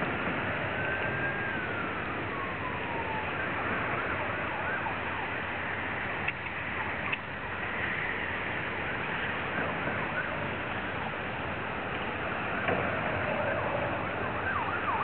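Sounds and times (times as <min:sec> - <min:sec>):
distant siren: 0:00.0 - 0:15.0
water: 0:00.0 - 0:15.0
wind: 0:00.0 - 0:15.0.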